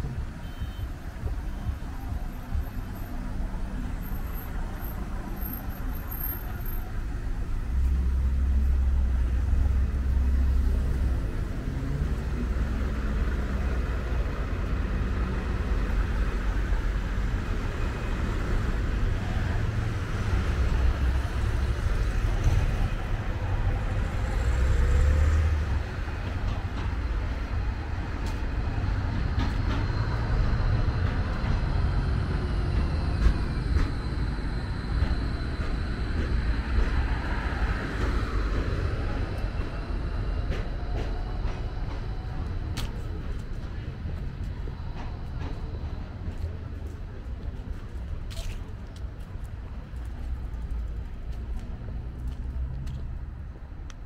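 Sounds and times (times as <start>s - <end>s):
motor vehicles passing: 1.0s - 54.0s.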